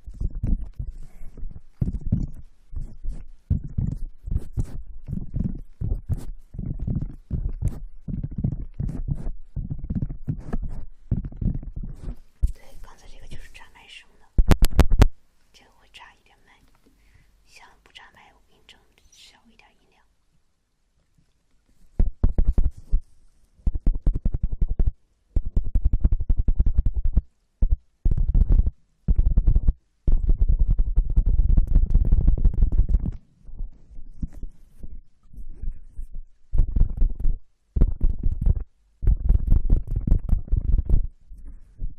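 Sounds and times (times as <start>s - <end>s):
hands rubbing on microphone: 0.0s - 15.1s, 21.7s - 27.2s, 28.1s - 41.9s.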